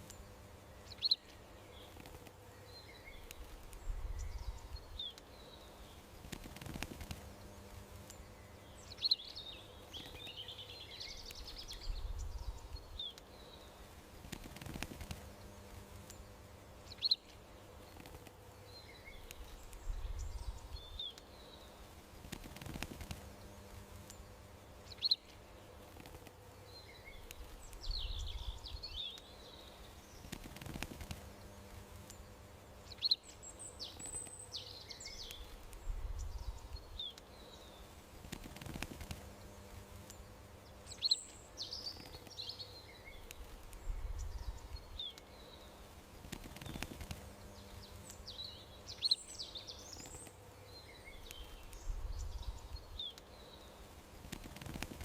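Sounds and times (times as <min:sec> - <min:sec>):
faint steady hum: 0:00.0 - 0:55.0
songbirds chirping: 0:00.0 - 0:55.0.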